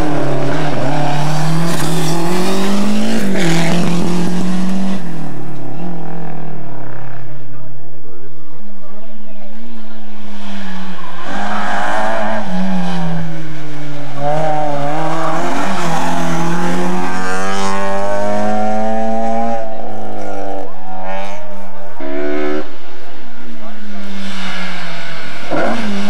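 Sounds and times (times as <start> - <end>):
rally car engines at full throttle: 0.0 - 26.0.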